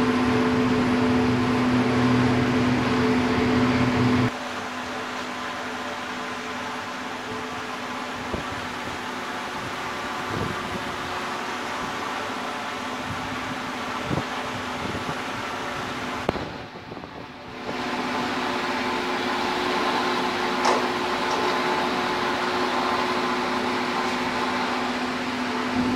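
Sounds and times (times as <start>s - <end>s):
machine air rush with low hum: 0.0s - 25.9s.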